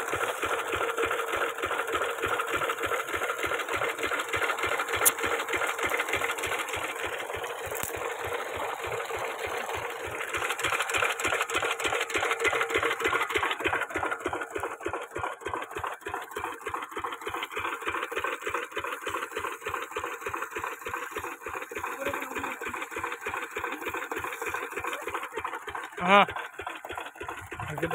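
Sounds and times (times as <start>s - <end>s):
diesel engine running steadily: 0.0s - 27.9s.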